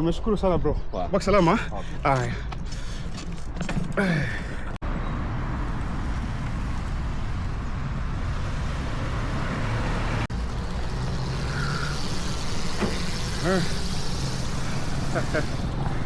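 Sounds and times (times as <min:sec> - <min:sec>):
road traffic noise: 0:01.2 - 0:16.0.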